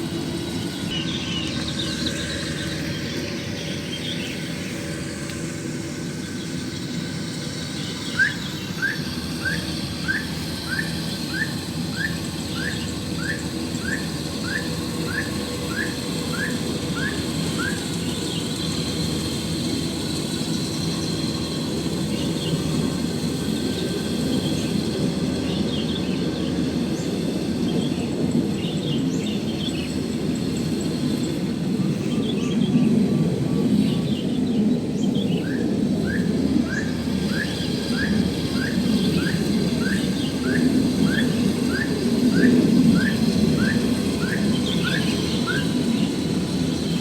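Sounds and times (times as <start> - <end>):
combine harvester engine droning: 0.0 - 47.0.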